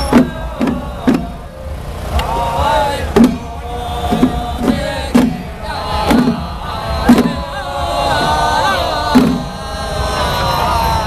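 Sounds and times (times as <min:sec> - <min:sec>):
hand drums beating slowly: 0:00.0 - 0:10.1
group chanting: 0:00.0 - 0:11.0.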